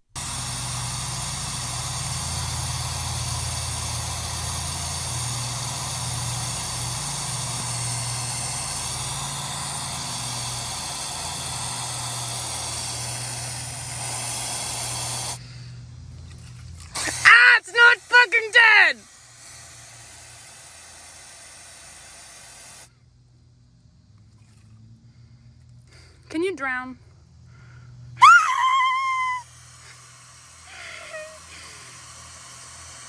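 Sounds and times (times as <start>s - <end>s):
aerosol spray hissing: 0.0s - 22.9s, 28.3s - 33.0s.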